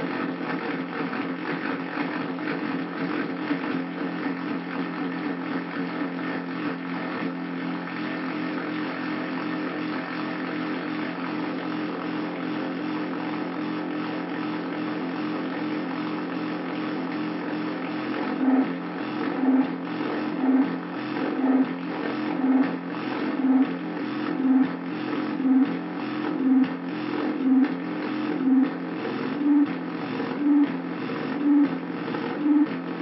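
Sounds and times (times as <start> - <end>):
gritty synthesizer drone: 0.0 - 33.0.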